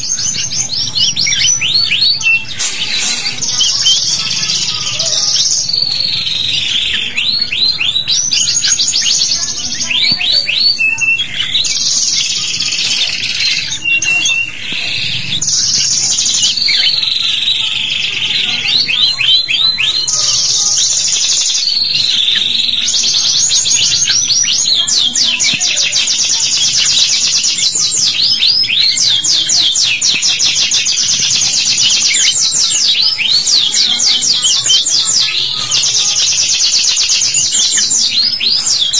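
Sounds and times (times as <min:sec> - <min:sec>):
canaries trilling: 0:00.0 - 0:38.9.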